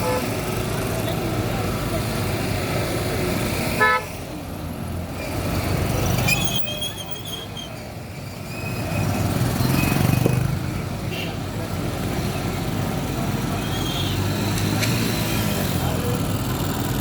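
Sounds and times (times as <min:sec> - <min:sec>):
vehicle engines in traffic: 0:00.0 - 0:17.0.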